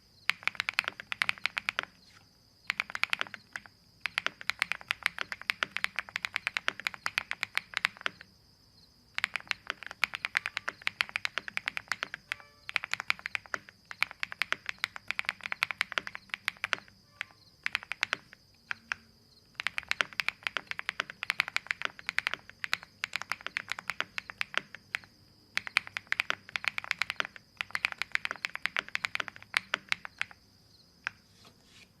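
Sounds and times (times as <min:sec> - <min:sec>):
mechanical keyboard typing: 0:00.3 - 0:02.0, 0:02.7 - 0:08.3, 0:09.2 - 0:30.4.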